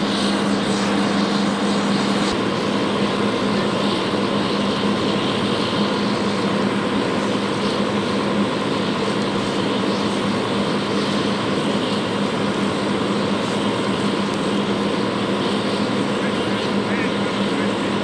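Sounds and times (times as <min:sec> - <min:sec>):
pump engine droning: 0:00.0 - 0:18.0.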